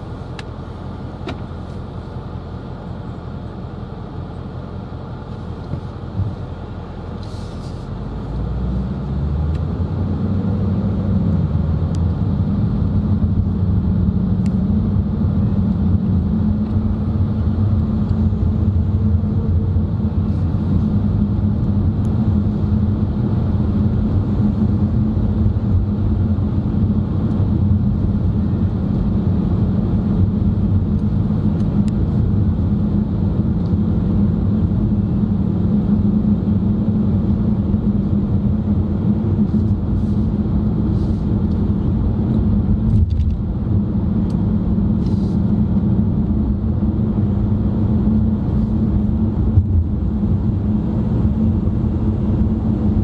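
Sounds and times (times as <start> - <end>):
car road noise from cabin: 0.0 - 53.0.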